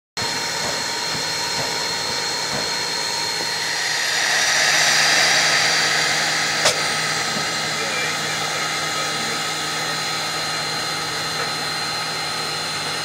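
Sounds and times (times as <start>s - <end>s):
locomotive exhaust chuffs: 0.3s - 13.0s
steam hissing: 0.3s - 13.0s.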